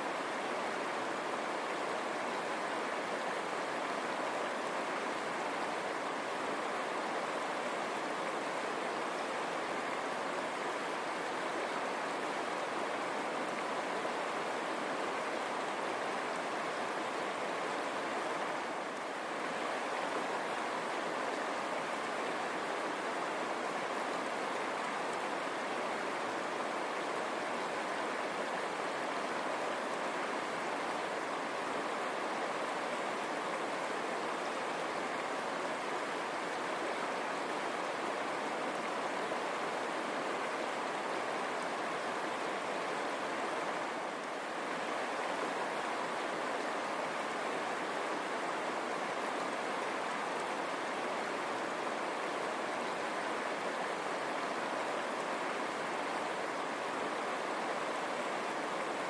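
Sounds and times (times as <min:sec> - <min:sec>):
river water running over stones: 0:00.0 - 0:59.0.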